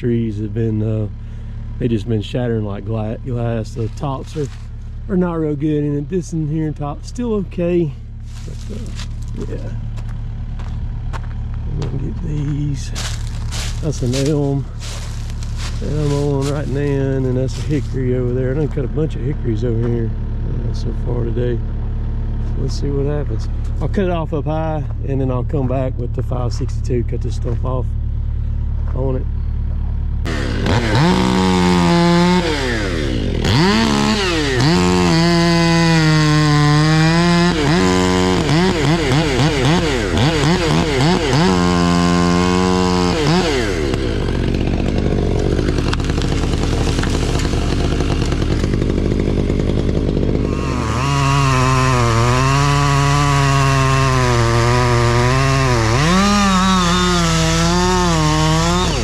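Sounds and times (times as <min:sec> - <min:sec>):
chainsaw throttle blips: 0:00.0 - 0:59.0
chainsaw cutting wood: 0:00.1 - 0:27.8, 0:30.2 - 0:59.0.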